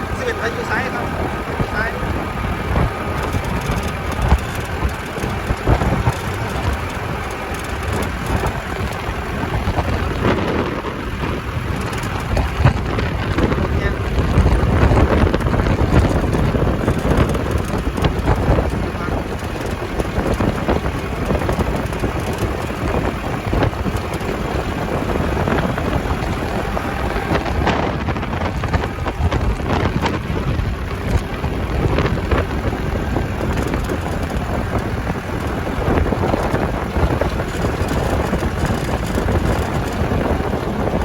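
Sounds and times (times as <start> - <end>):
strong wind buffeting microphone: 0.0 - 41.0.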